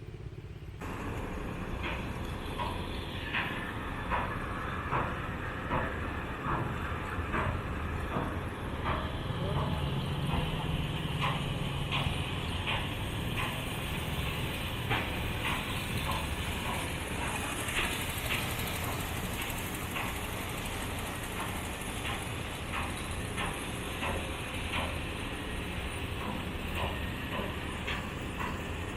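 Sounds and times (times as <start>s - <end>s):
low rumble of machinery and traffic: 0.0s - 28.9s.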